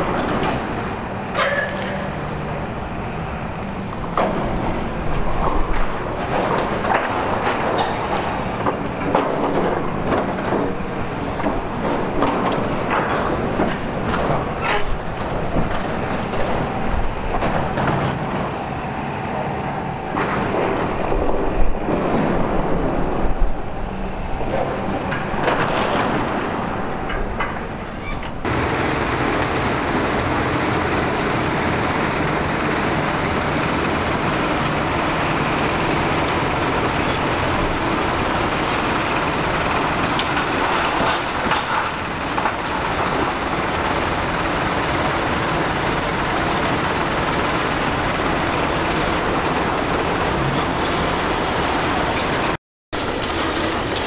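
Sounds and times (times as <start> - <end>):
diesel machinery engine drone: 0.0 - 22.4, 28.4 - 54.0.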